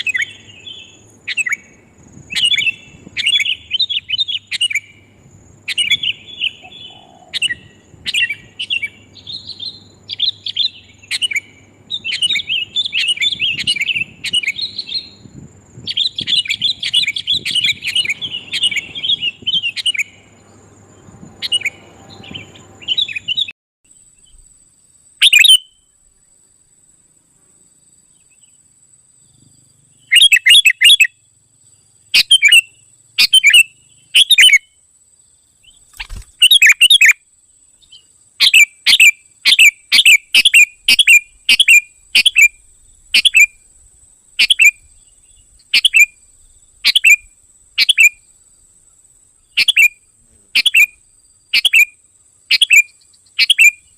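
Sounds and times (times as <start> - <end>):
bird sharp chirping calls: 0.0 - 23.5, 25.2 - 25.8, 30.0 - 31.2, 32.2 - 34.7, 35.6 - 37.2, 37.8 - 43.6, 44.4 - 48.2, 49.4 - 53.9.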